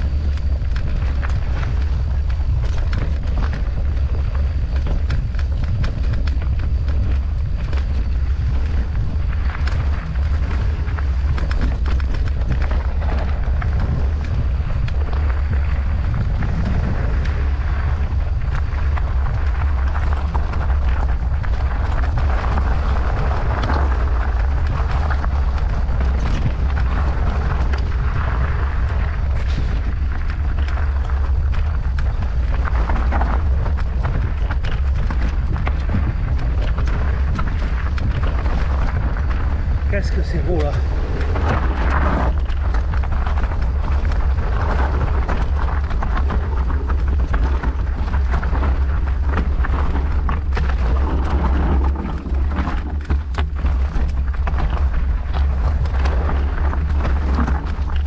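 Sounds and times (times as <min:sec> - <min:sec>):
bike clicks and rattles: 0:00.0 - 0:58.0
bike tyre noise on rough trail: 0:00.0 - 0:58.0
wind buffeting microphone: 0:00.0 - 0:58.0.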